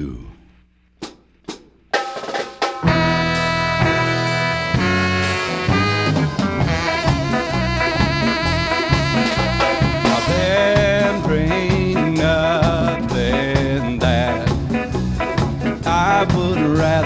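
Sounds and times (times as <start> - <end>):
drum kit: 1.0 - 17.0
swing band with horns: 1.0 - 17.0.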